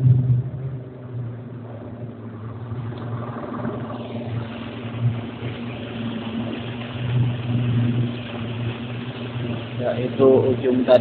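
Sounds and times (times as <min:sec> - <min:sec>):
motor boat engine humming: 0:00.0 - 0:11.0.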